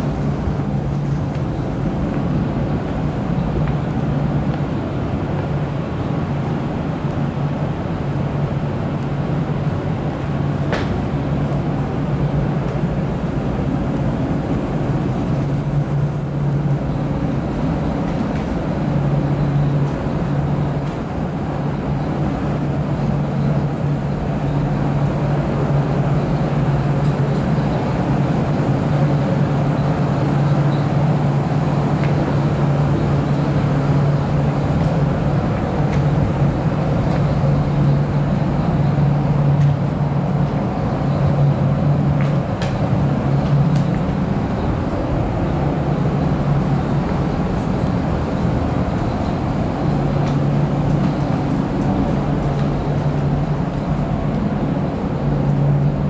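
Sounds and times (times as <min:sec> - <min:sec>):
equipment hum and air noise: 0:00.0 - 0:56.0.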